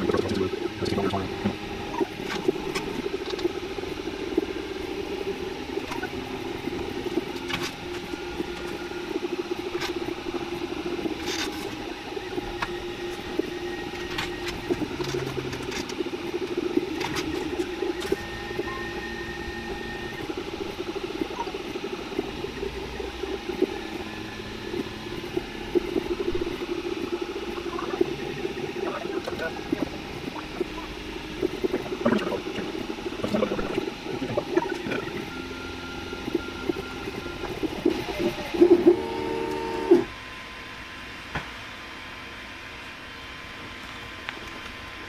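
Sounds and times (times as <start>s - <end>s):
stepper motors whirring and chirping: 0.0s - 40.1s
steady hum: 0.0s - 45.0s.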